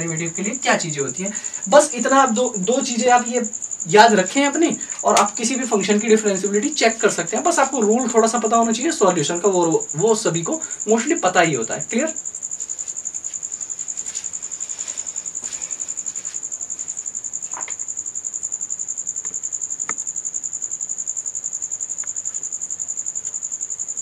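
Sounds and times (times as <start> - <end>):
insect chirping trill: 0.0 - 24.0.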